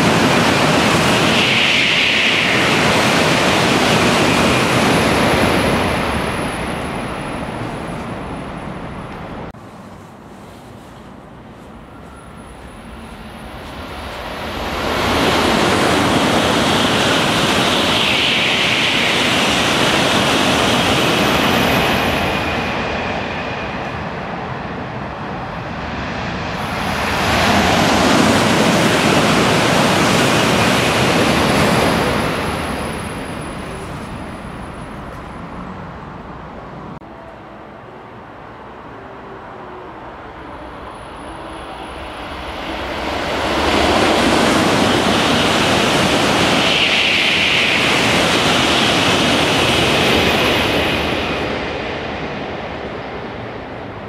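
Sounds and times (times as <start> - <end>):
train passing at speed: 0.0 - 54.0.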